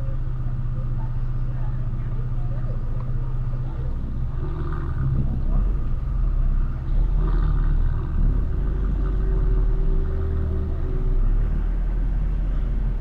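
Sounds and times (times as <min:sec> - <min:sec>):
slow traffic rumble: 0:00.0 - 0:13.0.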